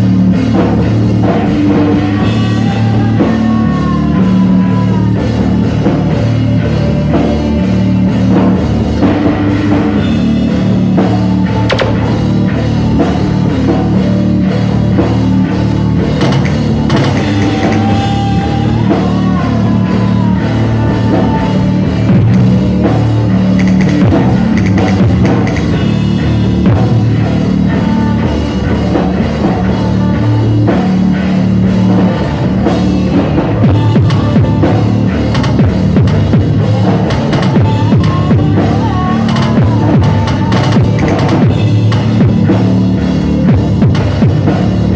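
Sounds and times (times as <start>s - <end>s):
drum kit: 0.0s - 44.9s
guitar playing: 0.0s - 44.9s
loud rock music: 0.0s - 44.9s.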